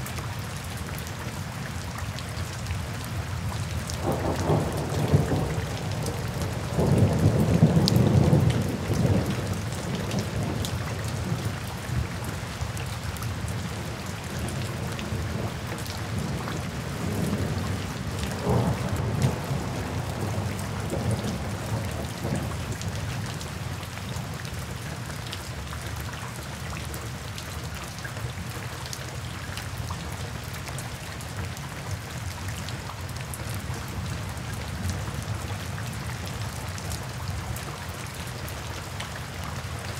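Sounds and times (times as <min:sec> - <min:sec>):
rain on wet pavement: 0:00.0 - 0:39.9.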